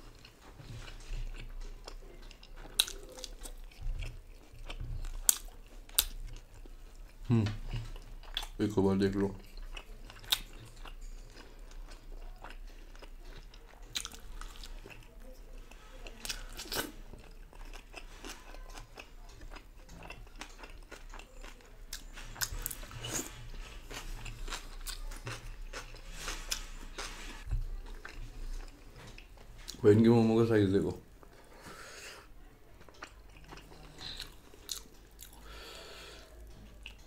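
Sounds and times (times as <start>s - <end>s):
crunching and chewing crispy food: 0.0s - 29.8s, 32.7s - 37.0s.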